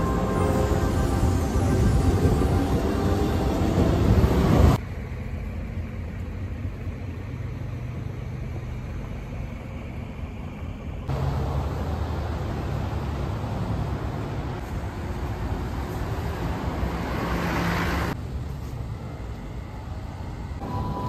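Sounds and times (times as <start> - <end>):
street traffic noise: 0.0 - 21.0
streetcar rumbling on tracks: 0.0 - 21.0.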